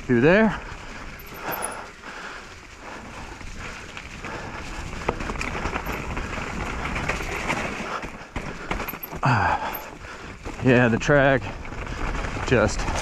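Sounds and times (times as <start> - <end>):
bike rattling: 0.0 - 13.0
bike tyres on dirt trail: 0.0 - 13.0.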